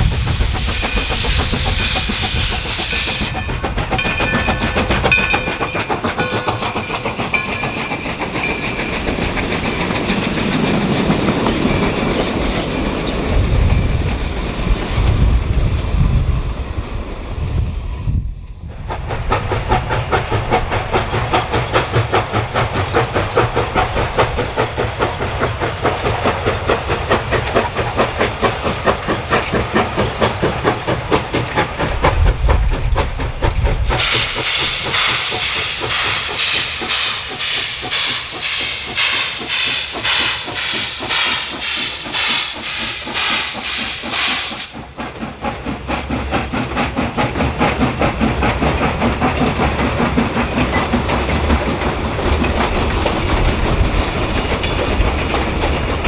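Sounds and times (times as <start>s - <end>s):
loud steam hiss: 0.0s - 15.2s, 19.1s - 32.3s, 33.7s - 54.4s
steam locomotive exhaust beats: 0.0s - 16.4s, 18.1s - 56.0s.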